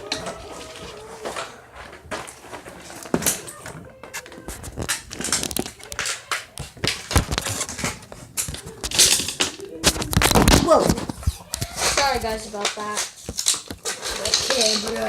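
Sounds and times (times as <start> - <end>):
plastic toy clicks and rustles: 0.0 - 15.0.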